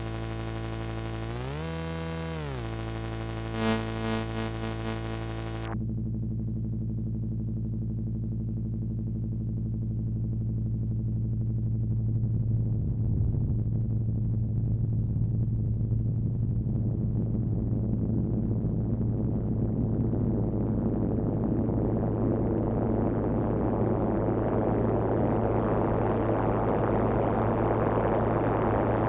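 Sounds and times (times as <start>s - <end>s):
synthesizer low drone: 0.0s - 29.0s.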